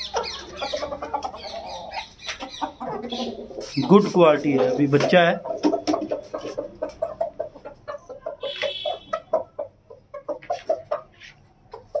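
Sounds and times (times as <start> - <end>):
chicken squawk: 0.0 - 4.7, 5.4 - 12.0
chicken clucking: 0.0 - 12.0.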